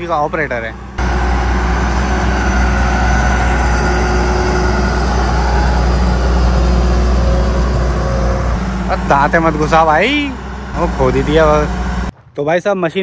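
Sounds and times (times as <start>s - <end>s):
excavator diesel engine running: 0.0s - 12.2s.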